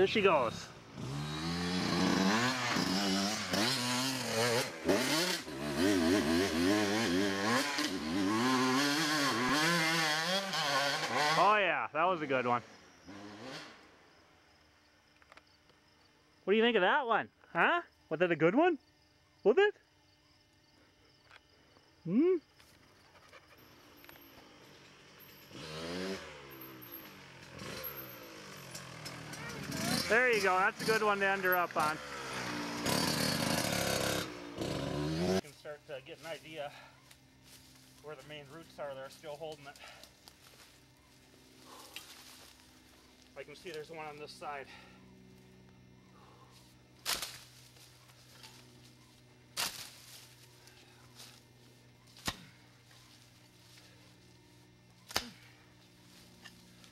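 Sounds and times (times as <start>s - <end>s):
dirt bike engine revving: 0.0s - 14.0s, 23.7s - 56.9s.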